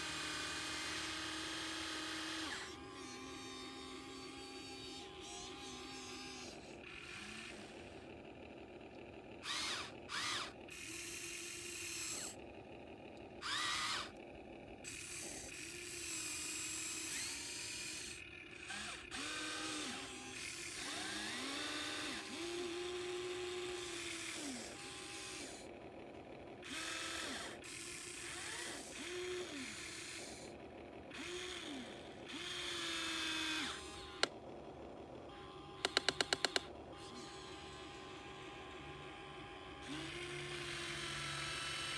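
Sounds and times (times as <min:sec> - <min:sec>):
harsh grinding bursts: 0:00.0 - 0:41.9
model excavator motors whirring: 0:00.0 - 0:41.9.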